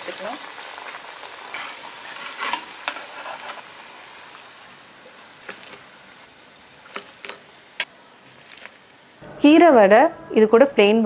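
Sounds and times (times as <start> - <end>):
food sizzling in hot oil: 0.0 - 9.2.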